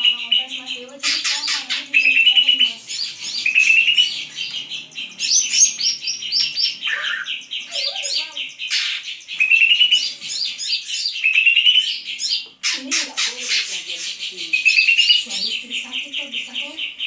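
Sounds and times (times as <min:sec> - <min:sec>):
bird singing fast chatter: 0:00.0 - 0:17.0.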